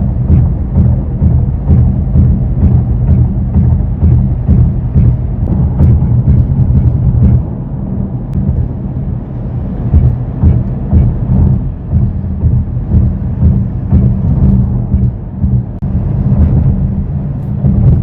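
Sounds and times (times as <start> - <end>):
low thumps: 0.0 - 18.0
low vibration drone: 0.0 - 18.0
road noise: 0.0 - 18.0.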